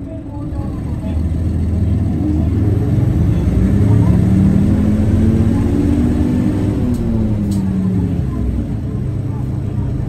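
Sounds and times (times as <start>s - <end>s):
bus diesel engine accelerating: 0.0s - 10.0s.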